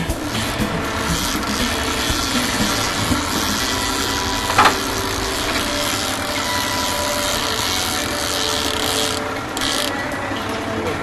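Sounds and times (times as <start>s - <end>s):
boat engine running: 0.0s - 11.0s
water noise: 0.0s - 11.0s
wind: 0.0s - 11.0s.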